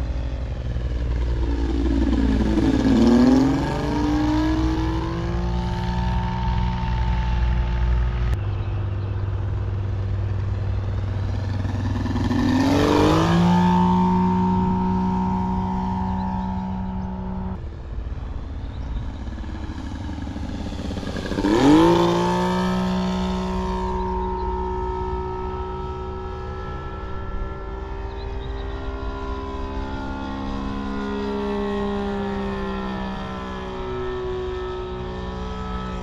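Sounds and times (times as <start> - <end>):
model plane radial engine sound: 0.0 - 36.0.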